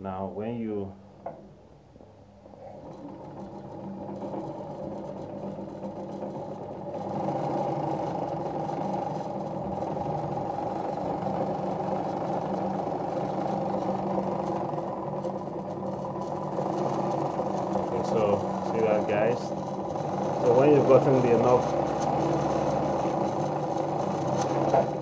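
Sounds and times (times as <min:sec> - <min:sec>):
sewing machine motor hum: 0:02.4 - 0:25.0.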